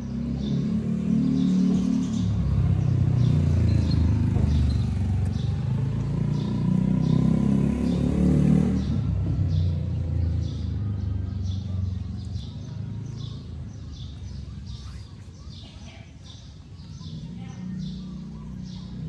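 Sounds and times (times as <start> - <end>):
engine rumbling: 0.0 - 19.0.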